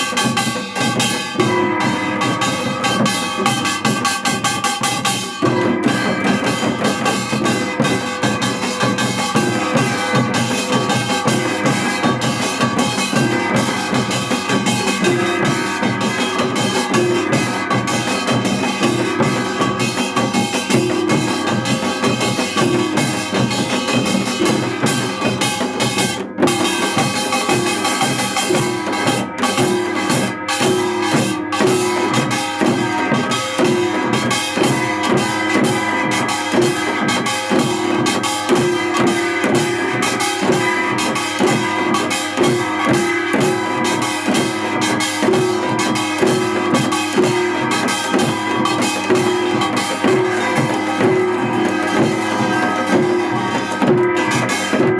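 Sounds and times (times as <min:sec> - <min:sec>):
music with drum kit beat: 0:00.0 - 0:54.9.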